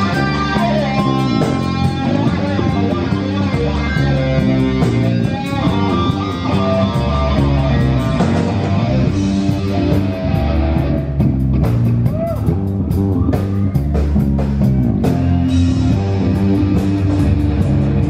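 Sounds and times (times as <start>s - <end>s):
bass guitar: 0.0s - 18.0s
drums: 0.0s - 18.0s
electric guitars: 0.0s - 18.0s.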